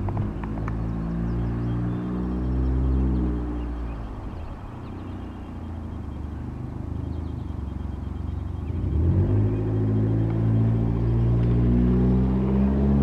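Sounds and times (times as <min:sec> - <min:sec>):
engine rumbling and revving: 0:00.0 - 0:13.0.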